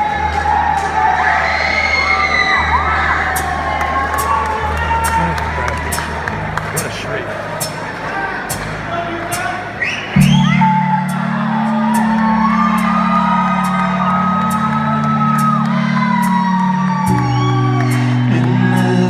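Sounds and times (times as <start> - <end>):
crowd whooping and shouting: 0.0 - 6.6, 9.8 - 19.0.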